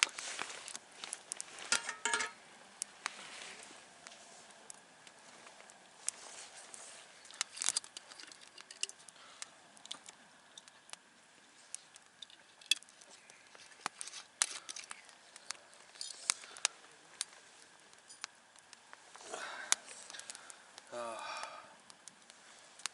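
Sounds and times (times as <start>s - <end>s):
campfire crackling: 0.0s - 22.9s.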